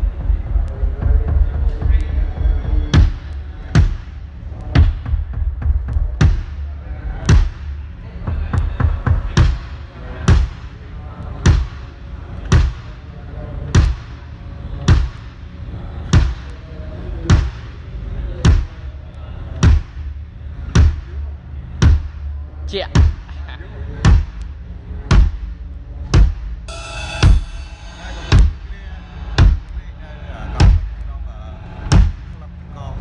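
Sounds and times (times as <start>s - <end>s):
drum struck steadily: 0.0s - 10.8s, 11.4s - 13.1s, 13.7s - 15.4s, 16.0s - 16.6s, 18.4s - 18.9s, 19.6s - 21.2s, 21.8s - 32.4s
steady low hum: 0.0s - 33.0s.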